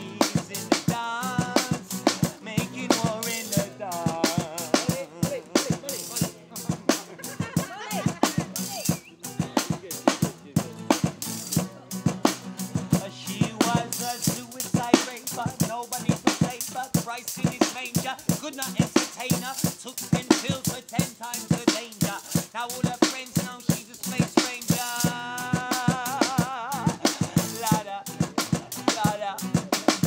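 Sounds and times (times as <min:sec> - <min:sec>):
drum kit playing fast: 0:00.0 - 0:30.0.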